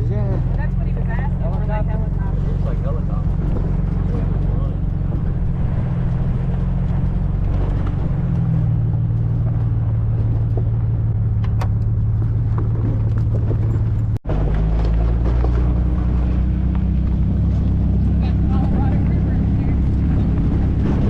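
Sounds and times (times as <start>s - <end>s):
car engine droning: 0.0s - 21.0s
road noise: 0.0s - 21.0s.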